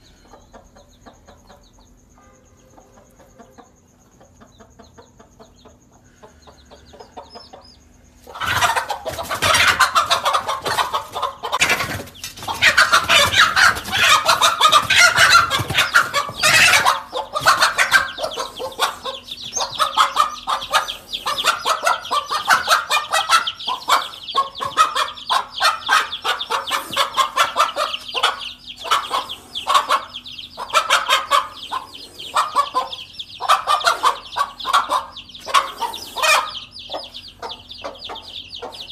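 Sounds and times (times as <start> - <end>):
hen clucking and cackling: 0.0 - 38.9.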